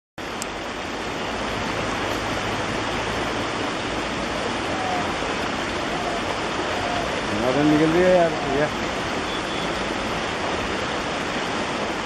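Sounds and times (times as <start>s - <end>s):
floodwater rushing: 0.2s - 12.0s.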